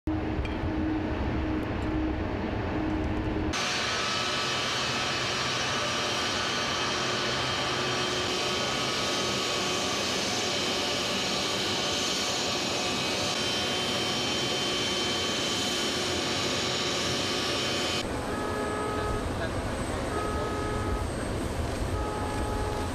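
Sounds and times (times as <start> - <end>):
jet engines rushing and whining: 0.1 - 22.9.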